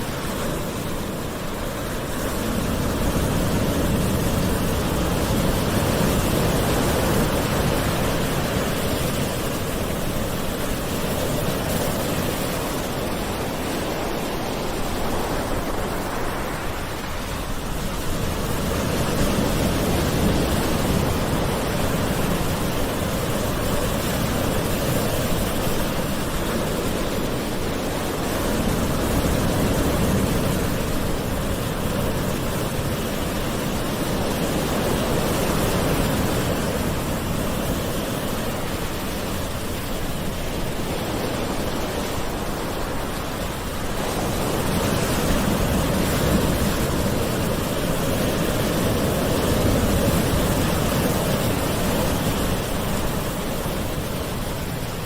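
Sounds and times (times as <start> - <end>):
gentle ocean waves washing ashore: 0.0 - 55.0.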